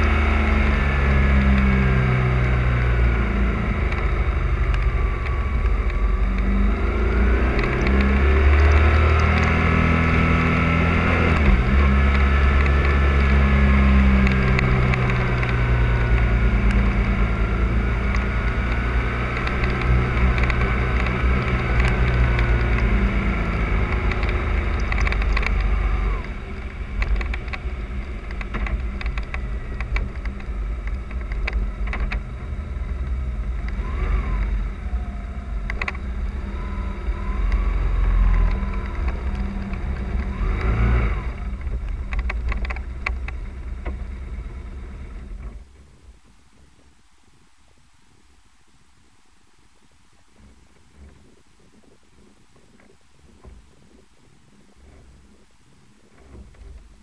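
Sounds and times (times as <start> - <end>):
motorcycle engine revving: 0.0 - 45.7
wind rushing on camera: 0.0 - 57.0.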